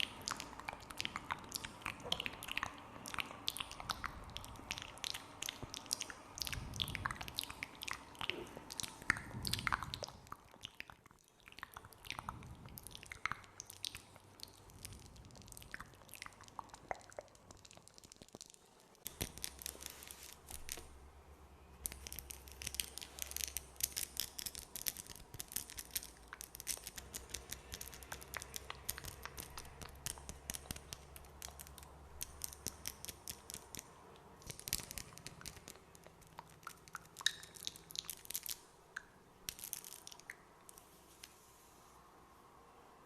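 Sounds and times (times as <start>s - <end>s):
wet mouth clicks and smacks: 0.0s - 20.9s, 21.8s - 41.4s.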